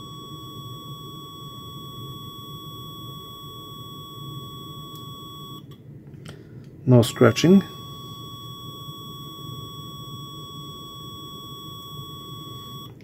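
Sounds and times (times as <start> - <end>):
multimeter continuity beep: 0.0 - 5.8, 6.9 - 13.0.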